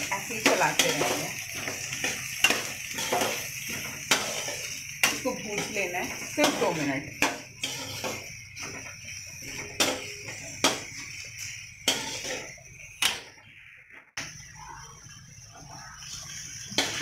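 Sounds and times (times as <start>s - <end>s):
vegetables sizzling in oil: 0.0s - 17.0s
metal spatula scraping a pot: 0.2s - 13.4s, 15.6s - 17.0s.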